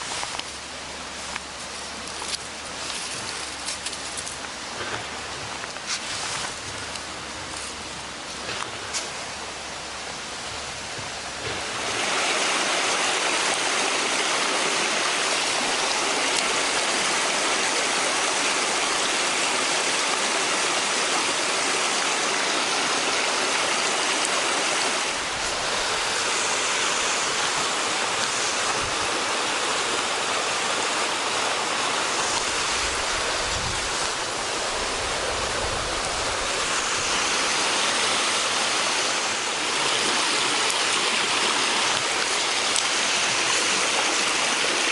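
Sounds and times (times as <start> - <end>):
river water rushing over rapids: 0.0 - 44.9.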